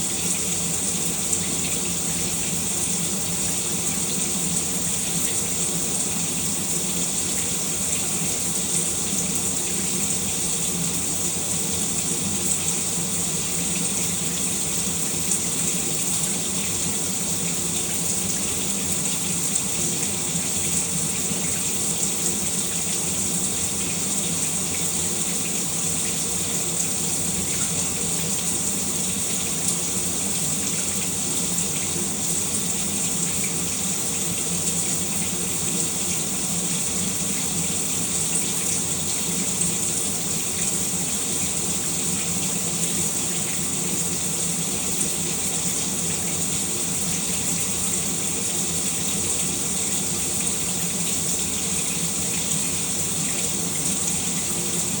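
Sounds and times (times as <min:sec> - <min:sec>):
shower running: 0:00.0 - 0:55.0.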